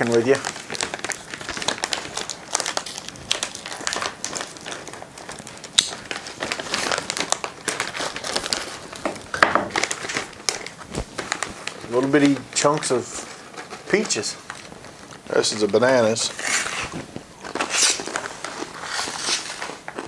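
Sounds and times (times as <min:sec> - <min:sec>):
plastic pouches crinkling: 0:00.0 - 0:20.0.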